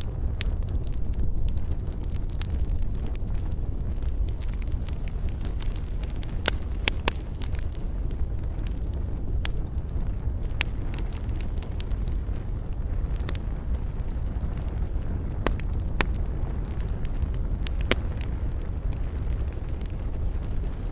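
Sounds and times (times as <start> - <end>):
fire crackling and popping: 0.0 - 20.9
fire flames rumbling: 0.0 - 20.9.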